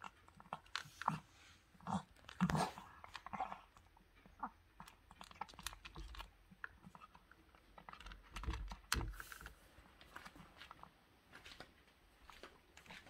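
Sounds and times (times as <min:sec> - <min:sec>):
cat chewing food: 0:00.0 - 0:13.0.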